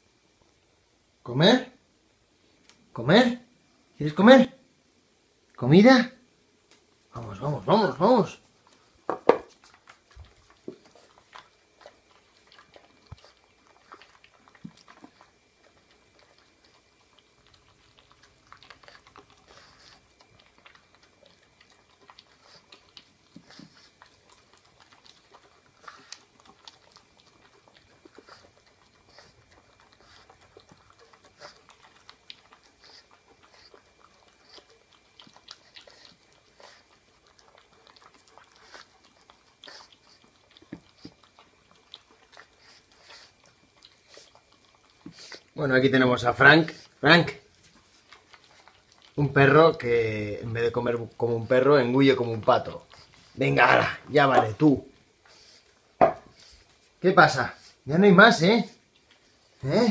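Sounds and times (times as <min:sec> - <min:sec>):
puppy chewing and crunching food: 0:06.5 - 0:59.9.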